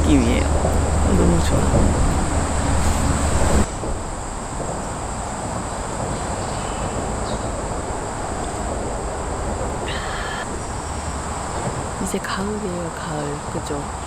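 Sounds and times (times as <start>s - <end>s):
high insect trill: 0.0s - 14.0s
traffic hiss: 0.0s - 14.0s.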